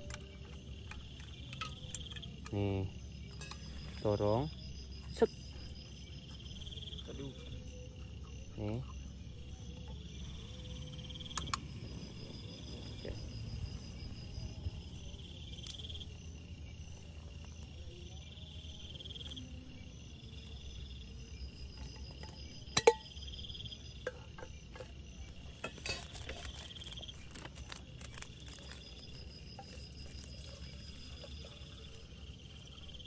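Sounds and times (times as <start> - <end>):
insects chirping in trills: 0.0 - 33.0.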